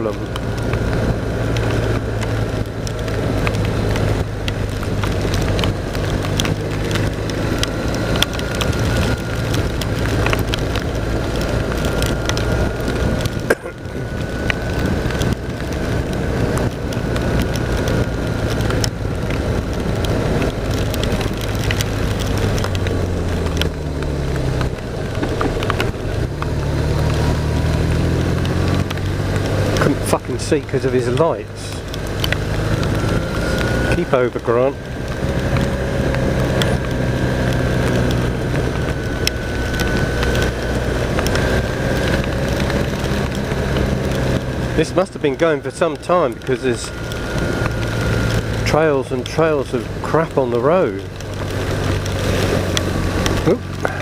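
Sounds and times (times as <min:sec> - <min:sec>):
motorcycle engine running: 0:00.0 - 0:54.0
raindrops clicking on microphone: 0:00.0 - 0:54.0
rush of wind and rain: 0:00.0 - 0:54.0.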